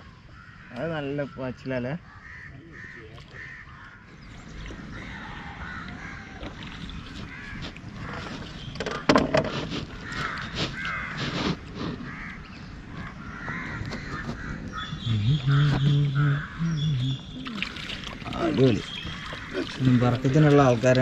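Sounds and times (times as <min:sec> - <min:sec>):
crows cawing: 0:00.0 - 0:17.3, 0:18.0 - 0:21.0.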